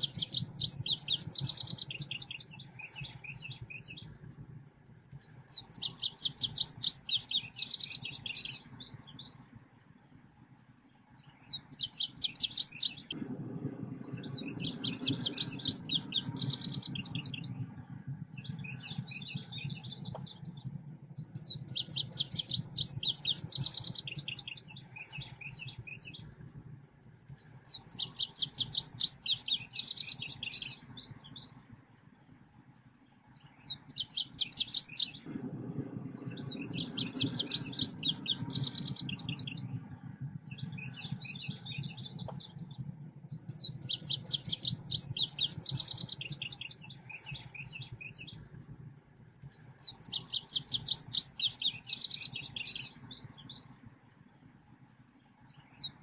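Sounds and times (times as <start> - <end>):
bird chirping: 0.0 - 4.2, 5.1 - 9.8, 10.9 - 13.4, 14.0 - 26.4, 27.3 - 32.0, 33.0 - 48.8, 49.4 - 54.4, 55.2 - 56.0
low hum: 0.0 - 56.0.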